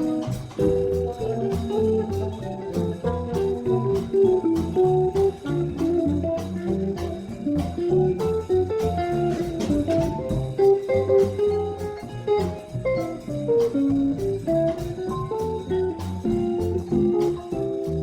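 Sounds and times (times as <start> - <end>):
bass: 0.0 - 18.0
drums: 0.0 - 18.0.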